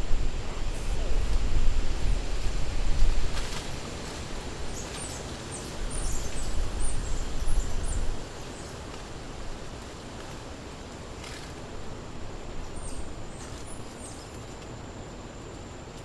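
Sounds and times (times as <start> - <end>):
steady forest hiss: 0.0 - 16.0.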